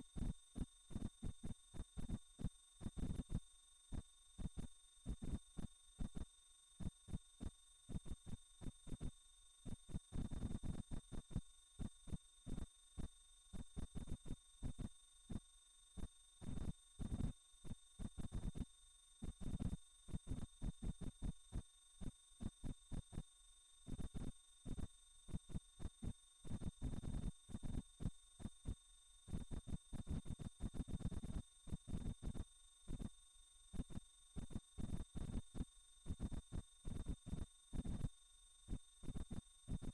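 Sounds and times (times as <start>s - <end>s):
pulsing high-pitched sine tone: 0.0s - 39.9s.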